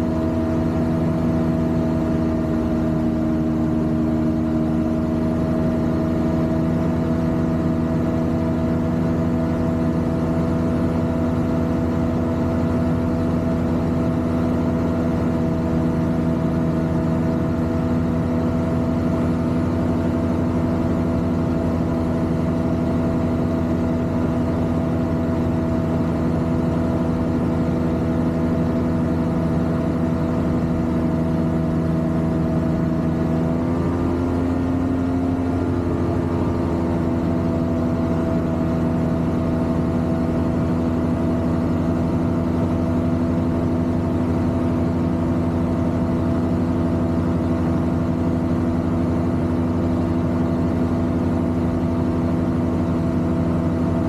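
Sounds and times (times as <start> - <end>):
ultralight aircraft engine and propeller: 0.0 - 54.0.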